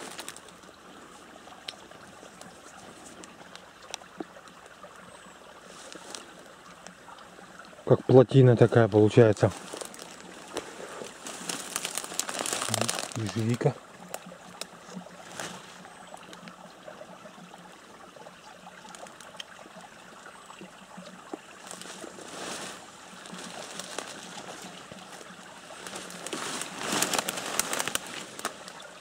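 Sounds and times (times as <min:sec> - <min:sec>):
leaves and branches rustling: 0:00.0 - 0:16.6, 0:18.5 - 0:19.7, 0:20.9 - 0:29.0
water trickling: 0:00.0 - 0:29.0.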